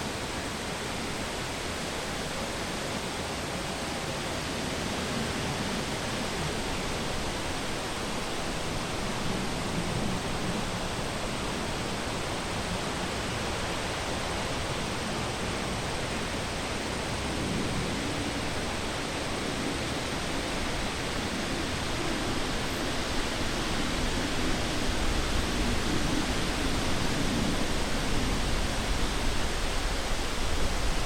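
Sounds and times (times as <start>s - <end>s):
wind blowing through forest: 0.0s - 31.0s.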